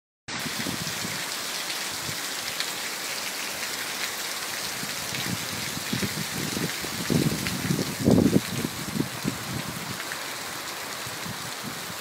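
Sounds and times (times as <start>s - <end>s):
heavy rain falling: 0.3s - 12.0s.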